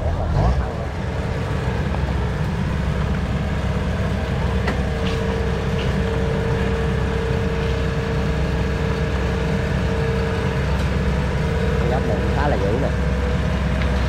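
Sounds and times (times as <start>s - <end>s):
diesel engine running: 0.0s - 14.0s
steady whine: 0.0s - 14.0s.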